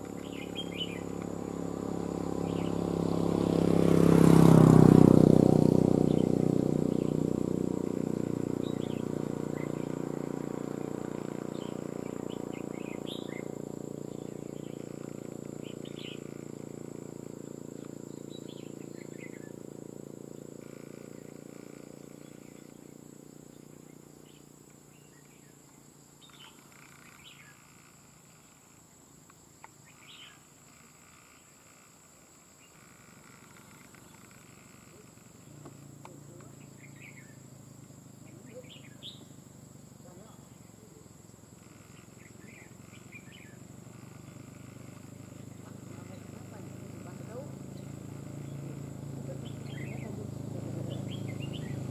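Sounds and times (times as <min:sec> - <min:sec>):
birds chirping: 0:00.0 - 0:51.9
insect drone: 0:00.0 - 0:51.9
vehicle engine running: 0:00.0 - 0:51.9.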